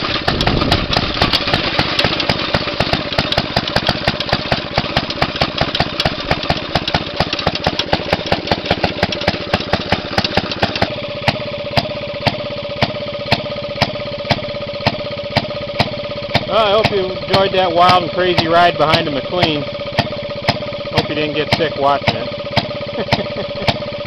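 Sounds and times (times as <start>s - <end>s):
two-stroke engine exhaust pops: 0.0s - 24.0s.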